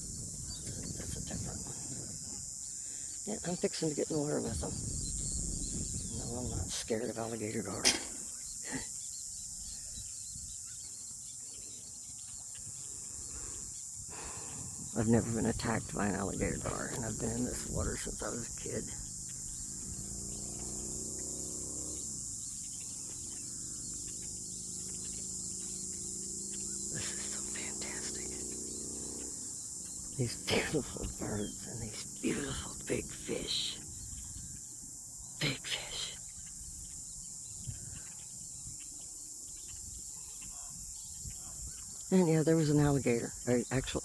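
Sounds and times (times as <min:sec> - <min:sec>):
insects trilling: 0:00.0 - 0:44.0.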